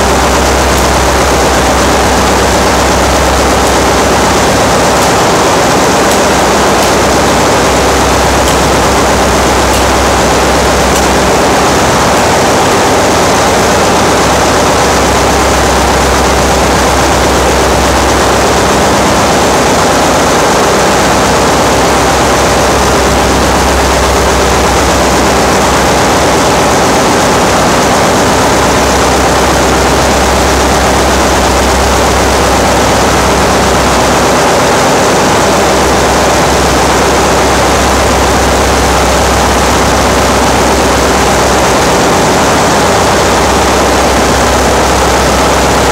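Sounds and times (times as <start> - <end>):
engine room machinery drone: 0.0 - 45.9.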